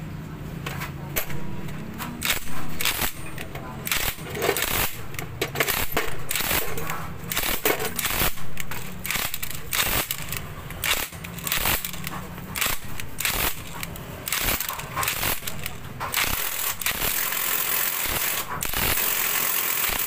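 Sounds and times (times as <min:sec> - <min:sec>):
socket ratchet clicking: 0:01.2 - 0:20.0.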